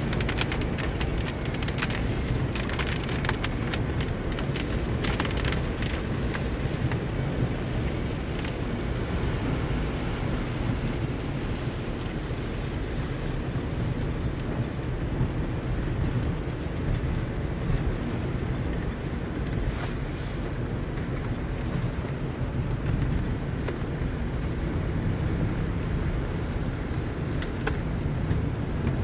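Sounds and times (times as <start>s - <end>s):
car driving on wet road: 0.0s - 29.0s
rain: 0.0s - 29.0s.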